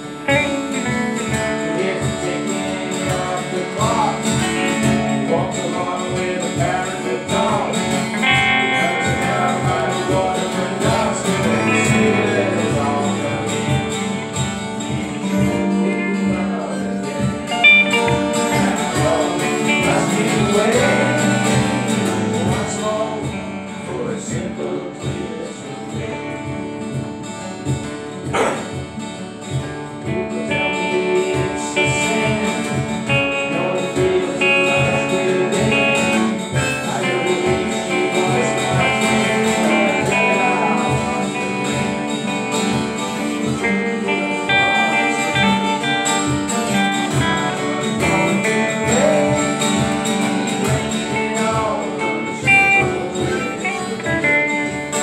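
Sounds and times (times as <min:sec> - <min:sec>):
acoustic guitars strummed: 0:00.0 - 0:55.0
person singing: 0:00.0 - 0:55.0.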